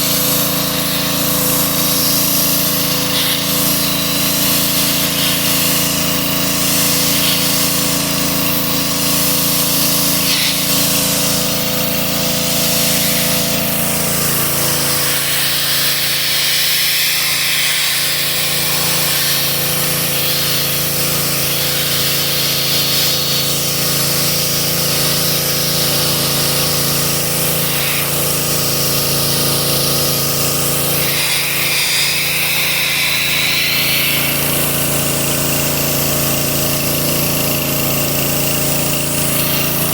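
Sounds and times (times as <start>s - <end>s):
hiss: 0.0s - 11.9s, 12.5s - 35.8s.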